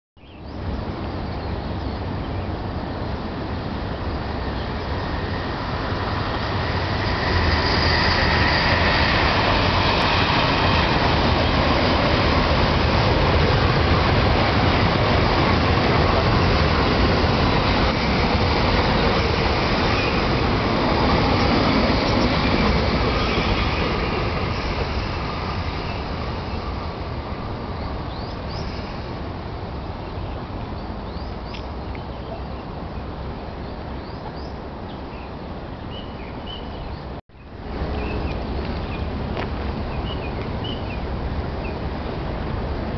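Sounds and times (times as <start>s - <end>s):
train wheels rumbling on rail: 0.5s - 34.8s, 36.6s - 42.9s.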